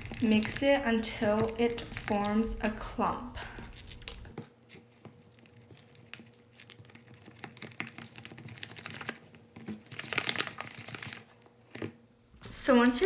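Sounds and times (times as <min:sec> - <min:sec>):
slime being stirred: 0:00.0 - 0:11.3, 0:12.3 - 0:13.0
small clicks and crackles: 0:00.0 - 0:13.0.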